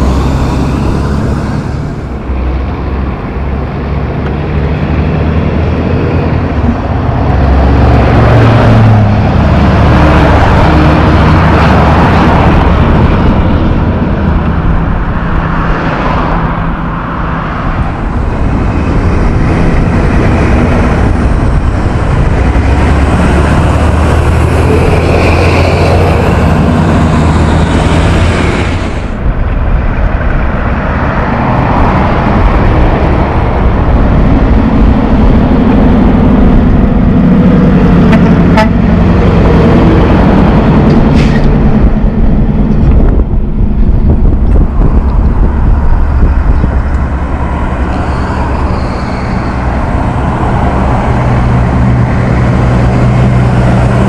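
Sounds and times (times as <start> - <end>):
trucks and cars passing: 0.0 - 54.0.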